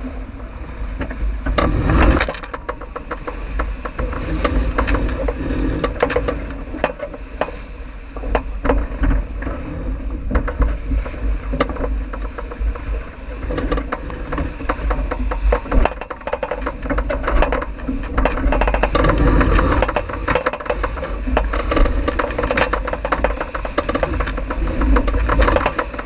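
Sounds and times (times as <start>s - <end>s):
sailboat rushing through water: 0.0s - 26.0s.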